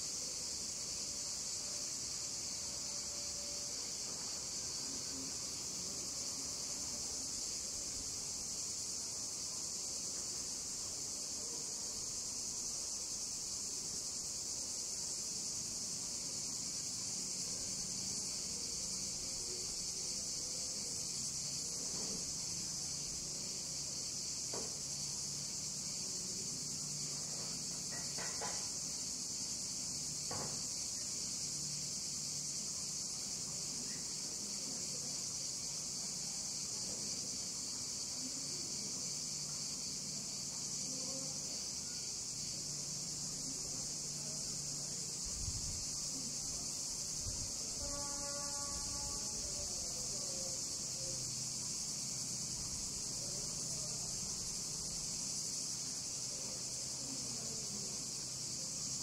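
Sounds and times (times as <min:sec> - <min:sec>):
cicadas chorus: 0:00.0 - 0:59.0.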